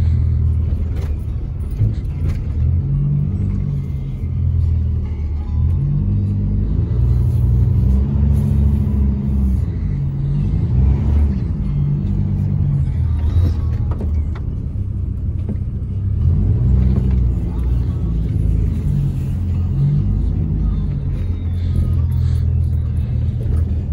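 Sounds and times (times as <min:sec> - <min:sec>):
truck engine and road noise: 0:00.0 - 0:23.9.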